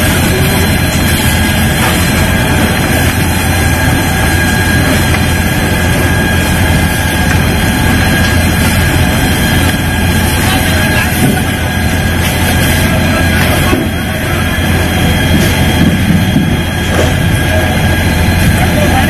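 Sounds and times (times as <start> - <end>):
building fire roaring: 0.0 - 19.0.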